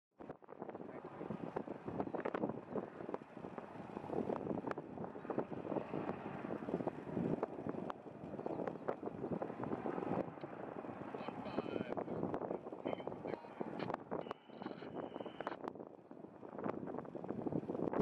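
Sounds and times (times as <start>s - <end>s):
wind buffeting microphone: 0.2s - 18.0s
helicopter flying overhead: 0.5s - 18.0s.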